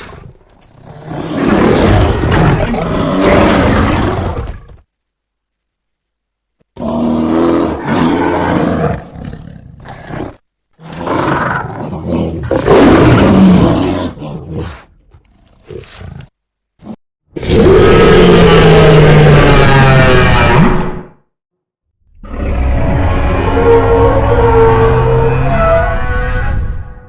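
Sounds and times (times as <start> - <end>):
cartoon dinosaur roars: 0.0 - 4.8, 6.8 - 14.9, 17.3 - 21.2, 22.1 - 27.0.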